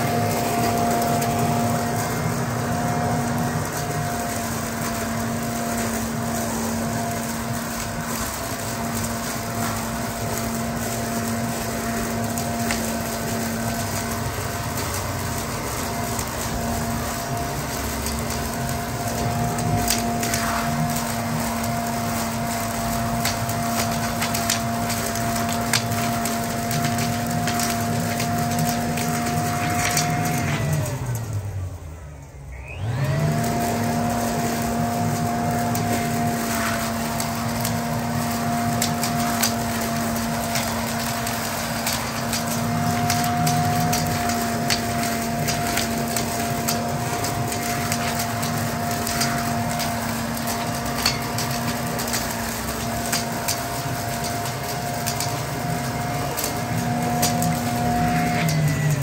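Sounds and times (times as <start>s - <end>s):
leaves and sticks rattling: 0.0s - 31.7s, 32.7s - 59.0s
leaf vacuum motor whining: 0.0s - 59.0s.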